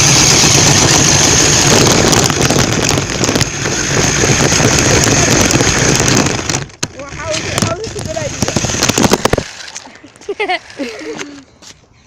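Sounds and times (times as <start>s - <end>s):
toy car motor whining: 0.0s - 11.4s.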